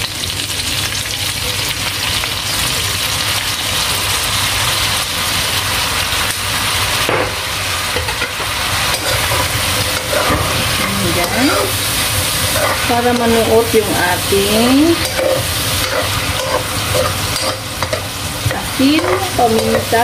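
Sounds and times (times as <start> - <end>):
chicken sizzling in a wok: 0.0 - 20.0.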